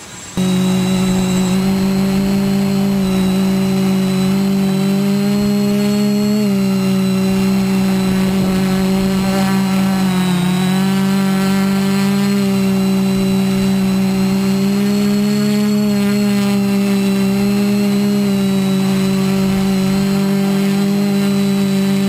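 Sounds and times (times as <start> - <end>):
drone motors humming: 0.4 - 22.0.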